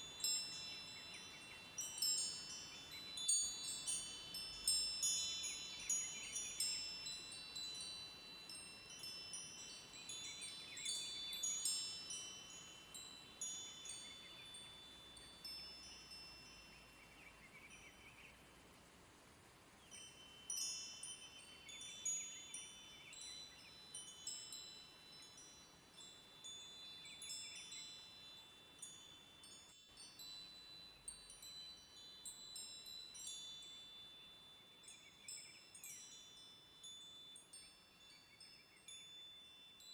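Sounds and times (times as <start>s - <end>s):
wind chimes ringing: 0.0s - 17.1s, 19.8s - 39.9s.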